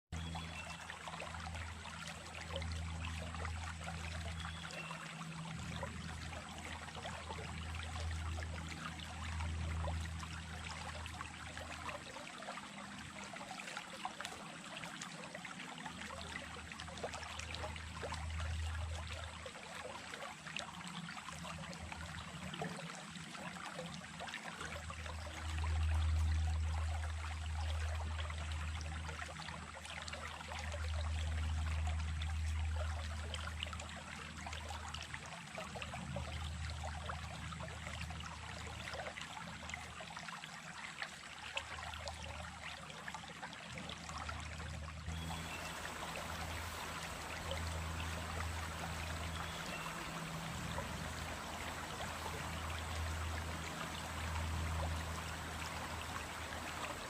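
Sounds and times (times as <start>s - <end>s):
small stream babbling: 0.1s - 57.0s.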